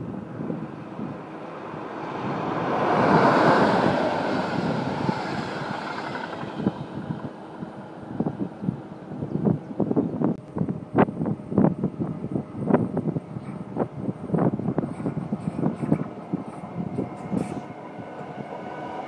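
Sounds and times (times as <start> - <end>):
passenger train passing: 0.0 - 19.0
wind buffeting microphone: 0.0 - 19.0.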